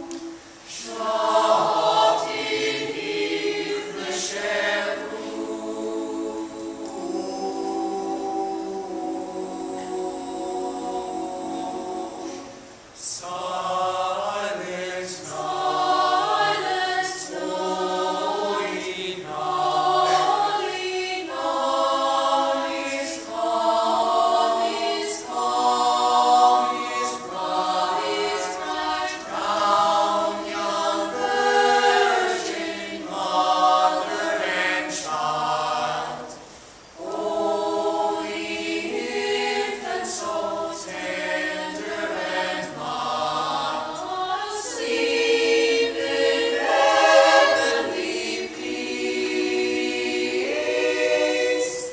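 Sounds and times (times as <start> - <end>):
choir singing a cappella: 0.0 - 51.9.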